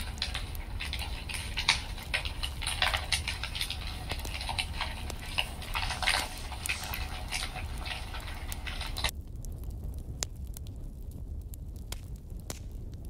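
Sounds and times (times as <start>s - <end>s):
low steady rumble: 0.0s - 13.0s
wood fire crackling: 0.0s - 13.0s.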